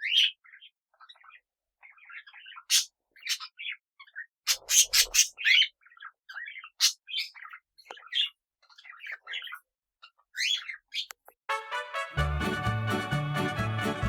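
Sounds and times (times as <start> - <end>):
parrots chirping and chattering: 0.0 - 11.3.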